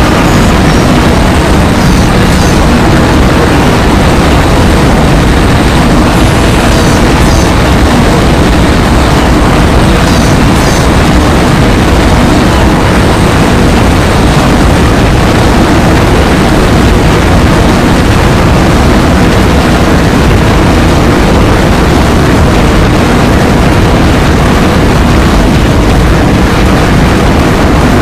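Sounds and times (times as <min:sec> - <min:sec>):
heavily distorted bassy noise: 0:00.0 - 0:28.0.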